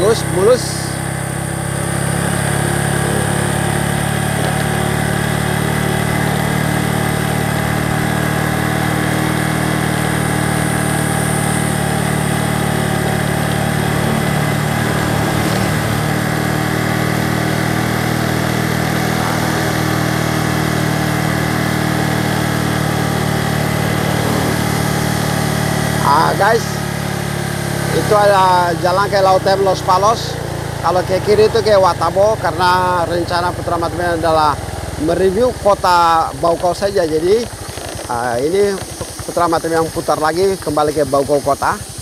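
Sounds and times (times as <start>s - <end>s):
road noise hum: 0.0s - 42.0s
vehicle engine running: 0.0s - 42.0s.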